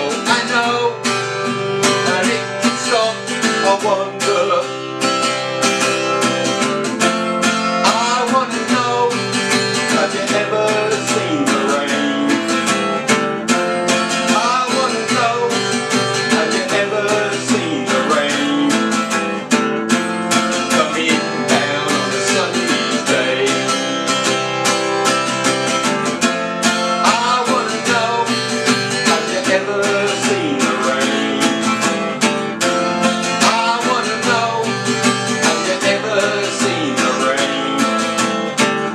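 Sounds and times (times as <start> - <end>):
man singing: 0.0 - 4.9, 7.4 - 13.1, 13.9 - 24.7, 26.6 - 38.9
acoustic guitar strumming: 0.0 - 38.9.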